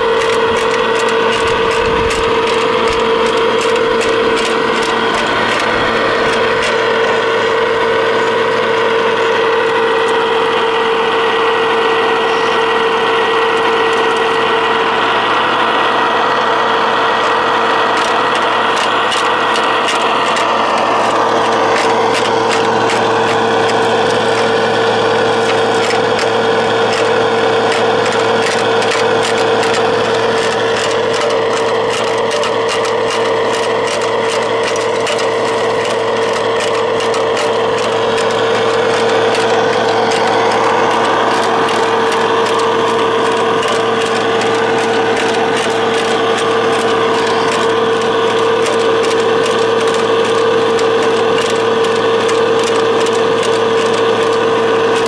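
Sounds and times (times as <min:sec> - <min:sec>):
electric drive whine: 0:00.0 - 0:55.0
gears clicking and rattling: 0:00.0 - 0:55.0.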